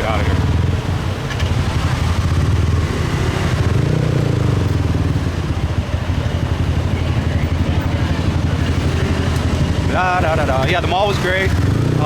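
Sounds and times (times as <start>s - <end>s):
motorbike engines running: 0.0s - 12.0s.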